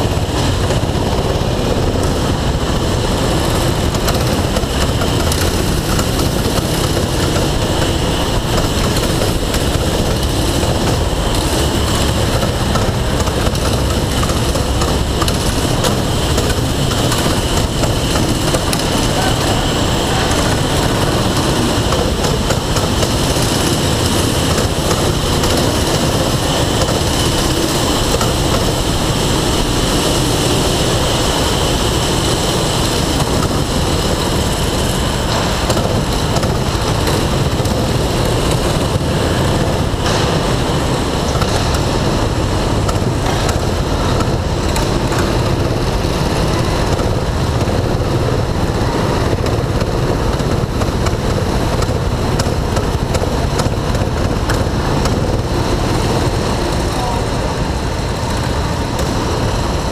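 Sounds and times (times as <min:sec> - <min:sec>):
go-kart engines racing: 0:00.0 - 0:59.9
road noise: 0:00.0 - 0:59.9.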